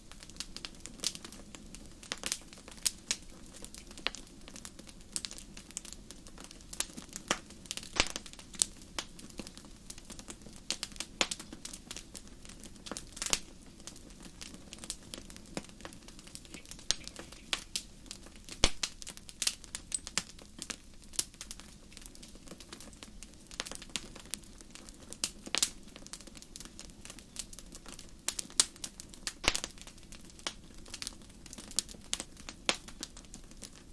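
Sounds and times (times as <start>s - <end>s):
low rush of burning: 0.0s - 32.6s
wood fire crackling: 0.0s - 33.9s.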